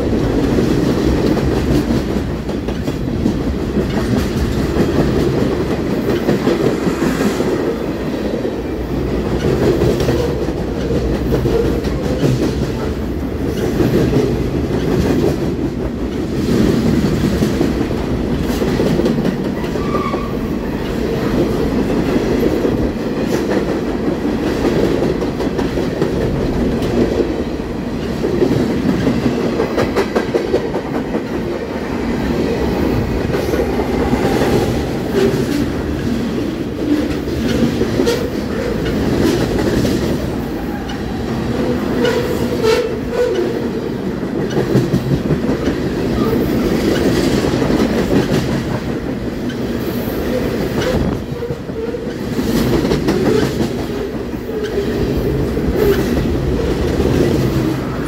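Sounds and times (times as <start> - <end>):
freight train rumbling past: 0.0 - 58.0
train wheels clacking: 0.0 - 58.0.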